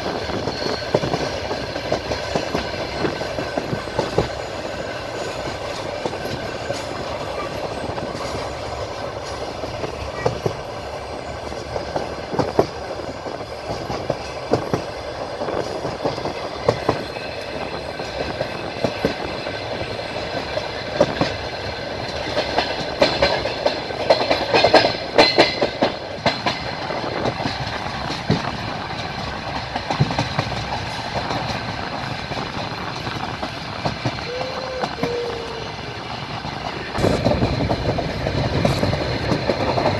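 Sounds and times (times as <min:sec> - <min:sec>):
rumble of moving train: 0:00.0 - 0:39.9
train wheels clattering over rail joints: 0:00.0 - 0:39.9.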